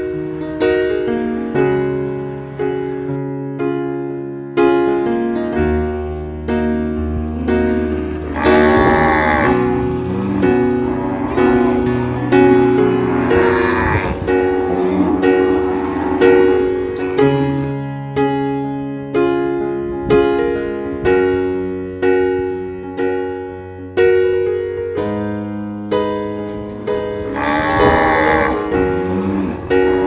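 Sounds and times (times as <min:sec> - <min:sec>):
slow piano chords: 0:00.0 - 0:30.0.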